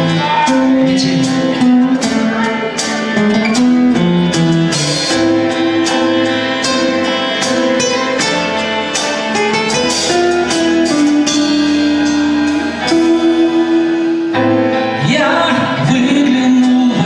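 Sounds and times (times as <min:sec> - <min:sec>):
live band music: 0:00.0 - 0:17.0
melody of long held notes: 0:00.0 - 0:17.0
strummed guitars: 0:00.0 - 0:17.0.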